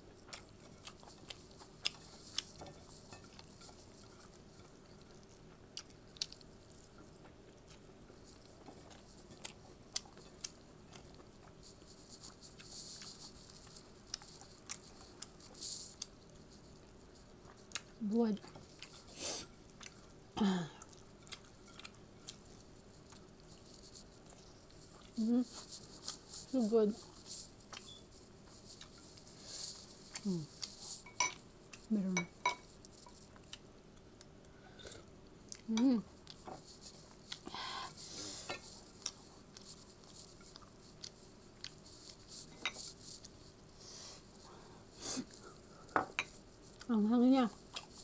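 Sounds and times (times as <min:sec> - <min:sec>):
person chewing food: 0:00.0 - 0:46.9, 0:47.5 - 0:48.0.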